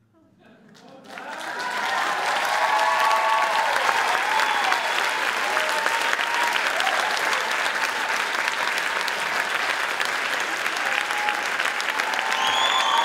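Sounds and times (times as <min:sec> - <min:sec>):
audience applauding: 0:00.8 - 0:13.0.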